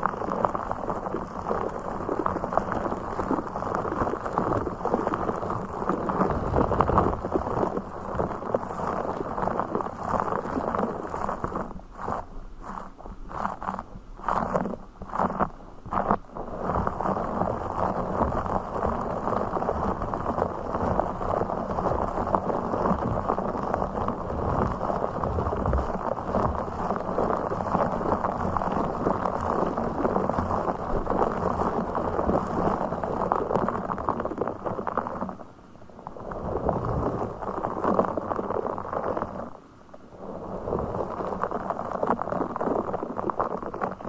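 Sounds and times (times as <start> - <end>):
muffled crackling rustle: 0.0 - 44.0.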